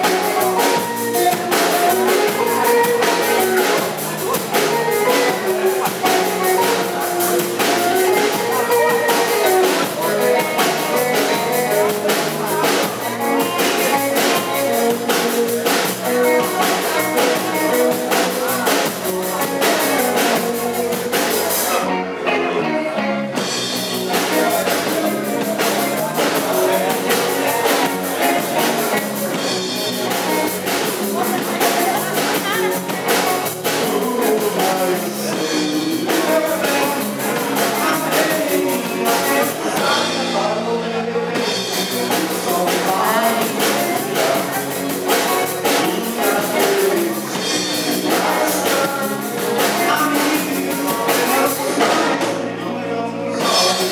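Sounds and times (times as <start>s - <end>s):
rock band playing: 0.0s - 53.9s.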